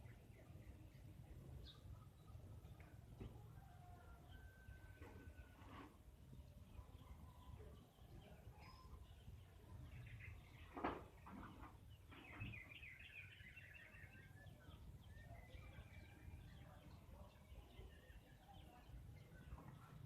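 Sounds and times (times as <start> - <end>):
faint bird chirping: 0.0 - 20.0.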